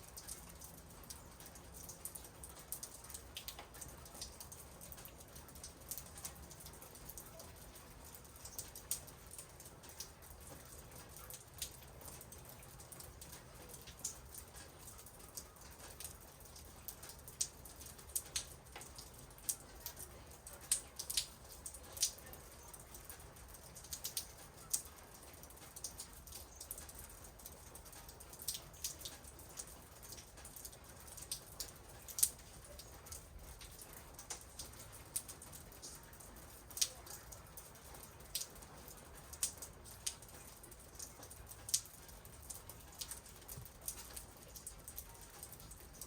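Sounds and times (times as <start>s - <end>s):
faint steady hiss: 0.0s - 46.0s
raindrops pattering: 0.0s - 46.0s.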